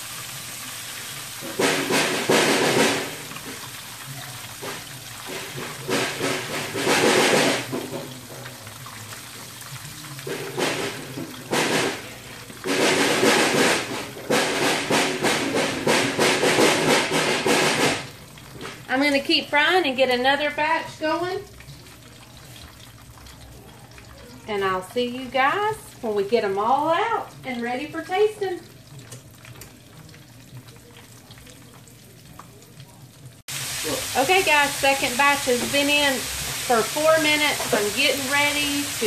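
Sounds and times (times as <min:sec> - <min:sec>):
crackling sizzle of food in oil: 0:00.0 - 0:39.0
oil frying with steady hiss: 0:00.0 - 0:39.0.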